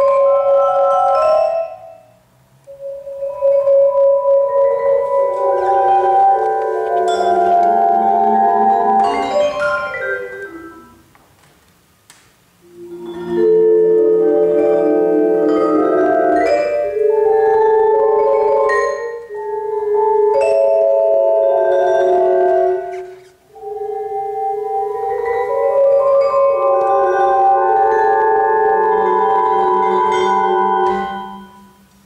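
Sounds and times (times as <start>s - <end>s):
vibraphone played with mallets: 0.0s - 11.0s, 12.6s - 31.9s.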